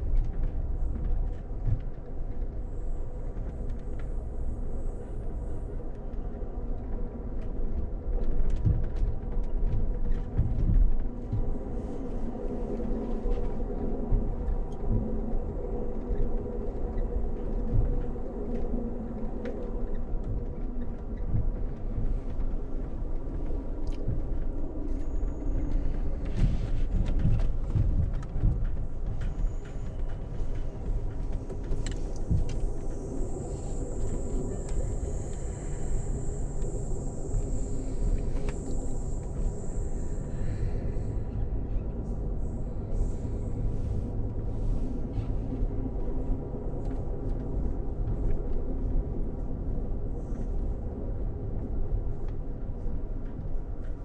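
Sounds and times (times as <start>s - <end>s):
train running at speed: 0.0s - 54.0s.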